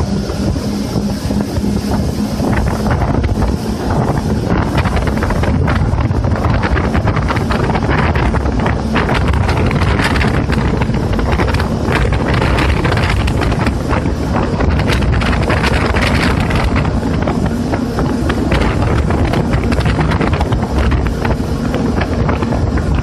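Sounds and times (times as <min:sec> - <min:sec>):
jet ski engine rumble: 0:00.0 - 0:23.0
water noise: 0:00.0 - 0:23.0
wind buffeting microphone: 0:00.0 - 0:23.0.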